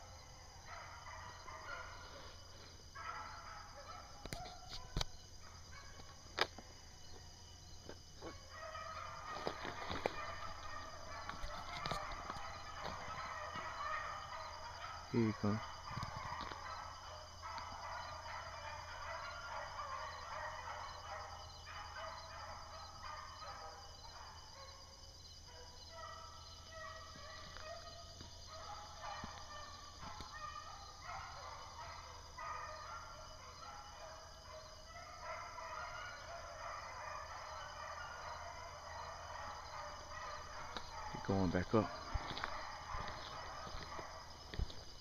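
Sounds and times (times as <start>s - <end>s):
distant hounds baying: 0.0s - 45.0s.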